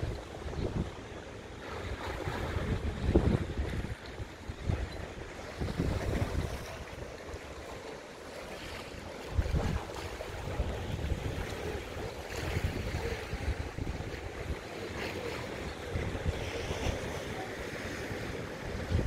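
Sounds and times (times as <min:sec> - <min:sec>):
wind buffeting microphone: 0:00.0 - 0:07.7, 0:09.1 - 0:19.0
sea waves washing: 0:00.0 - 0:19.0.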